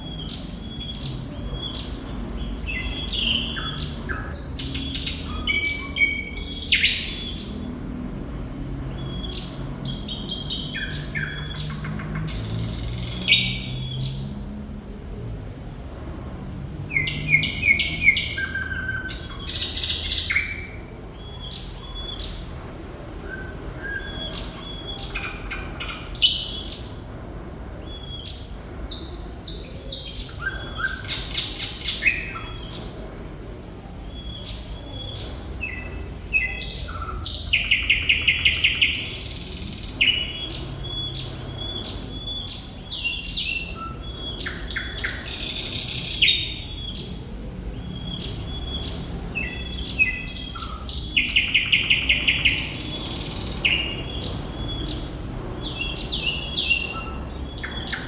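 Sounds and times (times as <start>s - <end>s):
nightingale singing: 0.0s - 14.5s, 15.9s - 27.1s, 27.8s - 33.2s, 33.9s - 58.0s.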